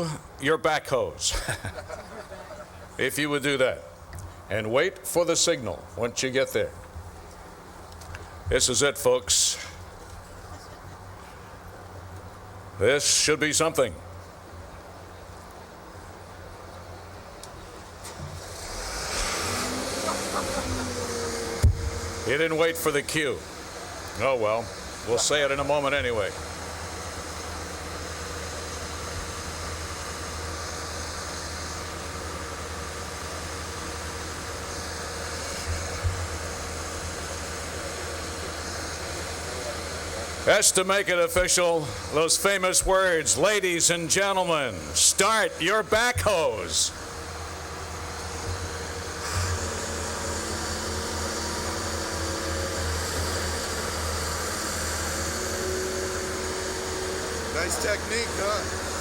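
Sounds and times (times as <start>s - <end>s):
backhoe engines humming: 1.6s - 59.0s.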